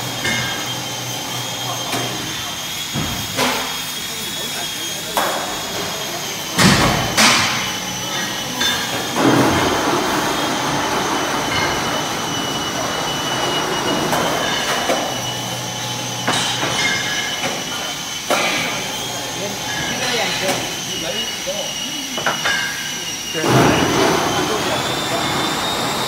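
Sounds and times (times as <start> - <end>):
workshop machinery whine: 0.0 - 26.0.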